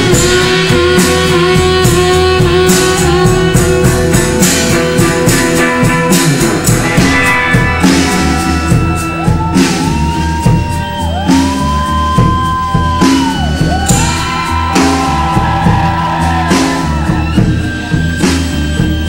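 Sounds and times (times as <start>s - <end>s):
drum beat: 0.0s - 19.0s
long held sliding high notes: 0.0s - 19.0s
rock music: 0.0s - 19.0s.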